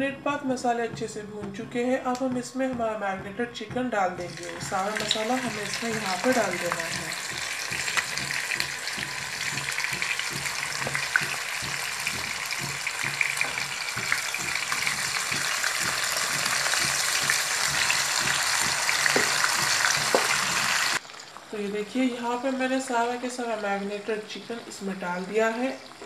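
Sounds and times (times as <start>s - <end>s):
chicken sizzling in hot oil: 4.2s - 26.0s.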